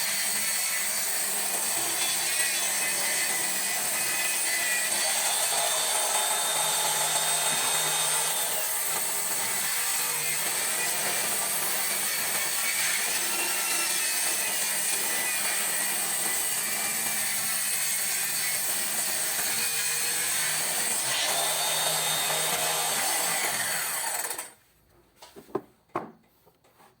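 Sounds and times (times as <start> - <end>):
circular saw cutting wood: 0.0 - 24.6.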